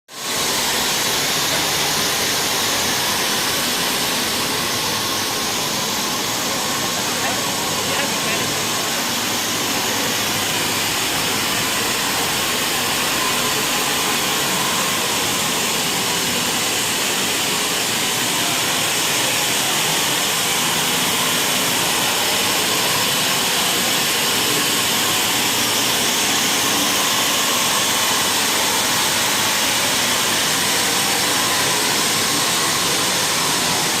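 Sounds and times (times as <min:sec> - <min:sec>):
steam boiler rushing noise: 0:00.1 - 0:34.0.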